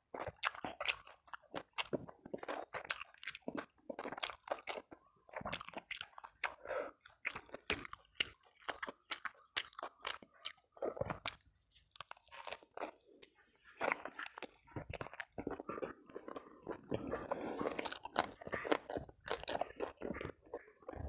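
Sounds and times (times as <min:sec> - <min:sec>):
close chewing with wet crunches: 0:00.0 - 0:21.0.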